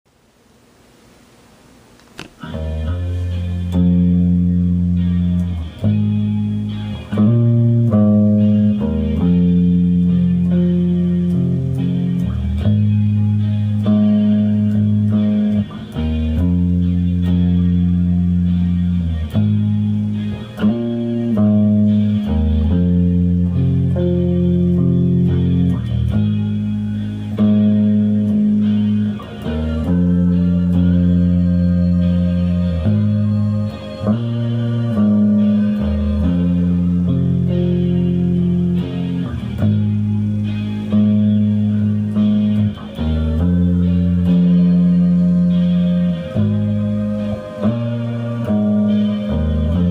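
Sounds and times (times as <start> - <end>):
guitar playing chords and riffs: 1.8 - 49.9.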